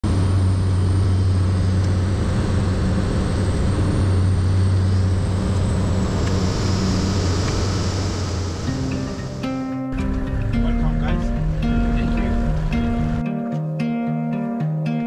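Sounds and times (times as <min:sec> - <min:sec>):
engine drone with high whine: 0:00.0 - 0:13.3.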